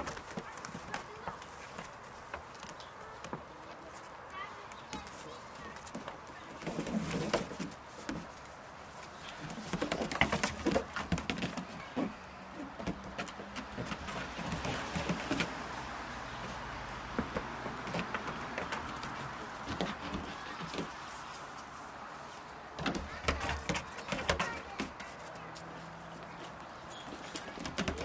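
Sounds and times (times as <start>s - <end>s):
hooves tapping on wooden roof: 0.0s - 28.0s.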